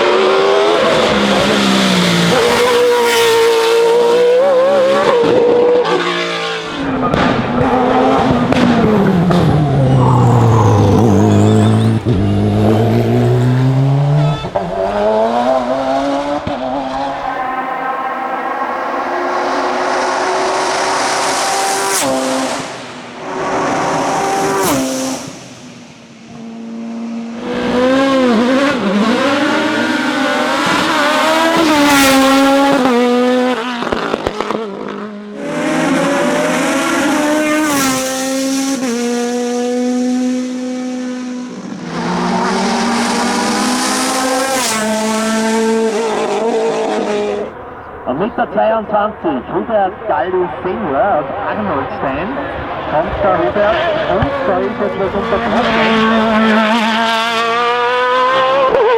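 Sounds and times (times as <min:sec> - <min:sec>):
racing car engines at full throttle: 0:00.0 - 0:58.9.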